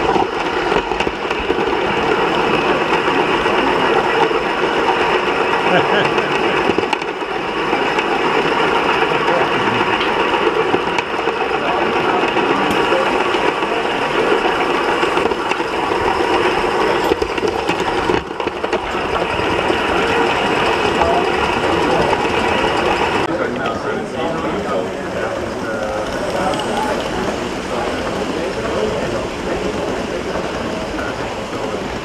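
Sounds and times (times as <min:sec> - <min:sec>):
model train wheels clattering: 0:00.0 - 0:31.8.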